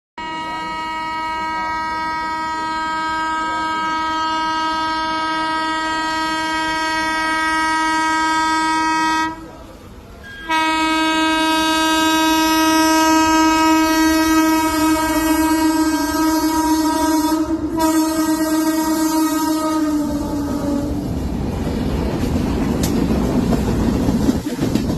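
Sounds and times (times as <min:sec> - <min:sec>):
train horn blasts: 0:00.2 - 0:09.6, 0:10.2 - 0:21.1
moving train rumble: 0:00.2 - 0:24.9.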